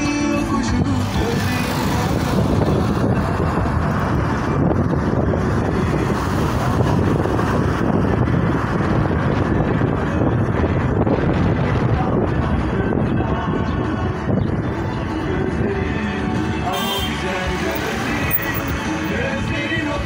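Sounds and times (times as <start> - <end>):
road and engine noise: 0.0 - 20.0
wind rumble on microphone: 0.0 - 20.0.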